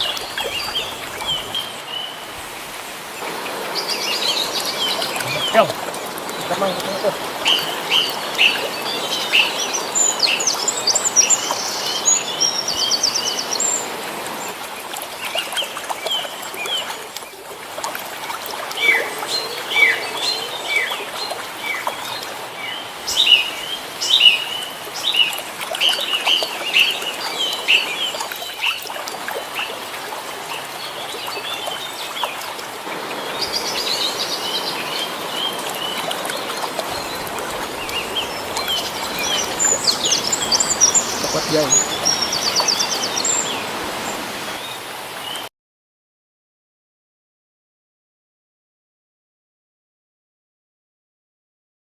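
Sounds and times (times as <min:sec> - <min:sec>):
birds chirping: 0:00.0 - 0:17.4, 0:18.7 - 0:45.5.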